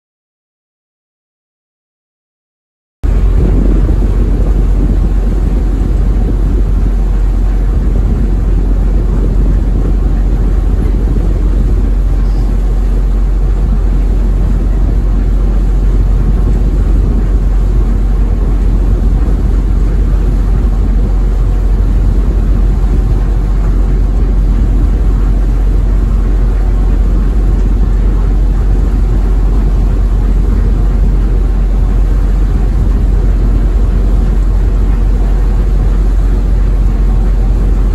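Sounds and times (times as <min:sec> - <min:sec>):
ferry engines rumbling: 0:03.0 - 0:37.9.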